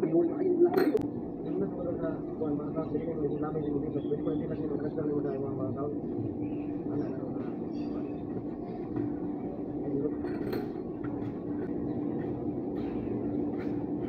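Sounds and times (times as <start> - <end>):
machine droning: 0.0 - 14.0.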